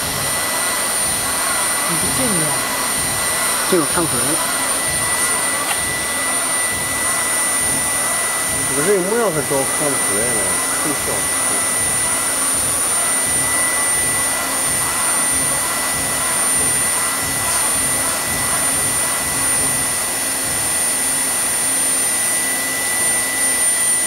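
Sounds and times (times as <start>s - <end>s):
milling spindle cutting foam: 0.0s - 24.0s.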